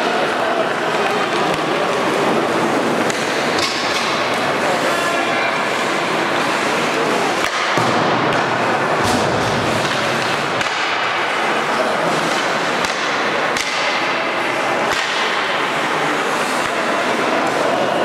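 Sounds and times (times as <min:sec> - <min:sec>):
skating and arena noise: 0:00.0 - 0:18.0
hockey sticks and puck knocking: 0:00.6 - 0:04.8, 0:06.6 - 0:17.6.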